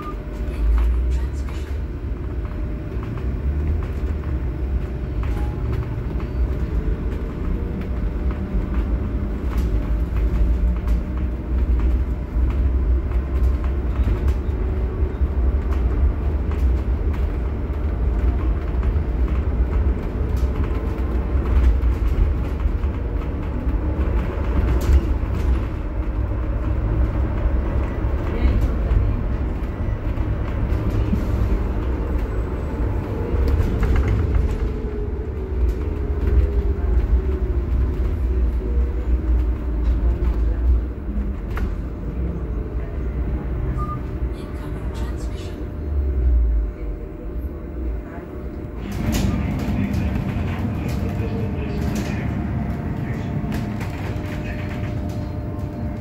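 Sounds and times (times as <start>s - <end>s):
interior rattles and clicks: 0.1s - 56.0s
tyre and road rumble: 0.6s - 56.0s.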